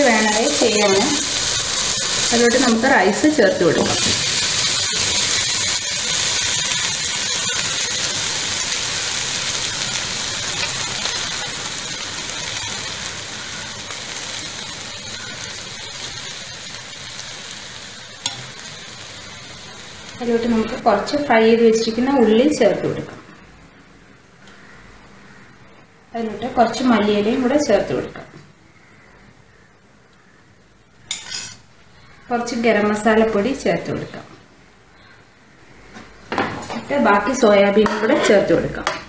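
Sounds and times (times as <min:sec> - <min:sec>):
food sizzling in a pot: 0:00.0 - 0:23.4, 0:26.2 - 0:28.4, 0:31.0 - 0:34.2, 0:36.3 - 0:39.0.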